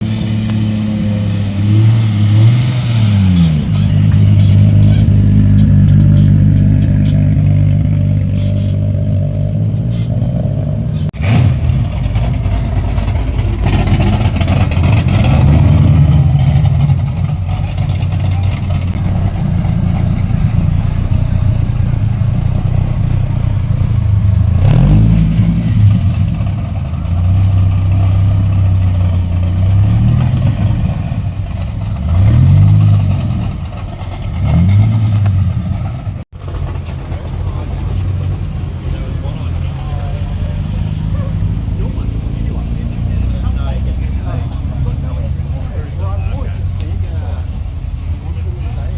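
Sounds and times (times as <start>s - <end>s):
car engines idling: 0.0s - 48.9s
engine revving: 0.0s - 48.9s.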